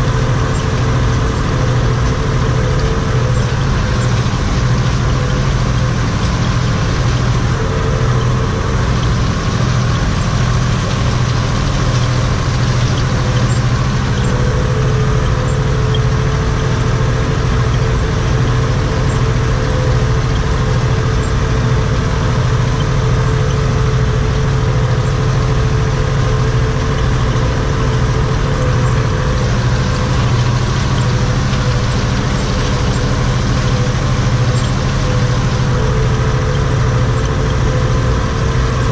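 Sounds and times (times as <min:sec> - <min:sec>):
steady whine: 0:00.0 - 0:38.9
tractor diesel engine running: 0:00.0 - 0:38.9.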